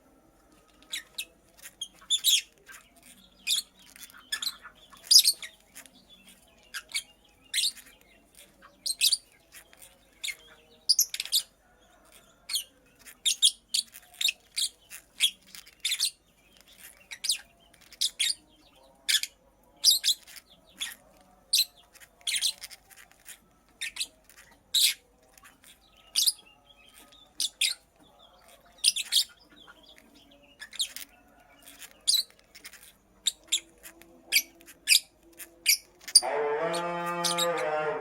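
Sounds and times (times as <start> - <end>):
bird chirping: 0.5 - 38.0.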